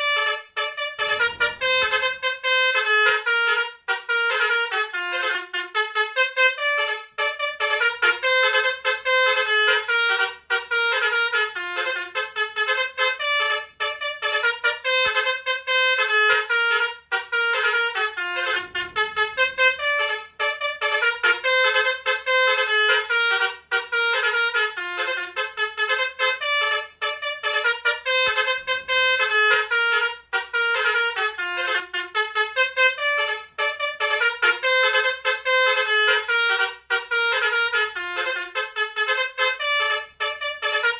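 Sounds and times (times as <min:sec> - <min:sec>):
multi-trumpet bus horn melody: 0:00.0 - 0:40.9.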